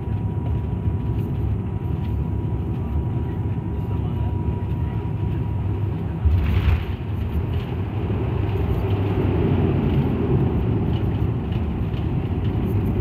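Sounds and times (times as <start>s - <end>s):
propeller engines running: 0.0s - 13.0s.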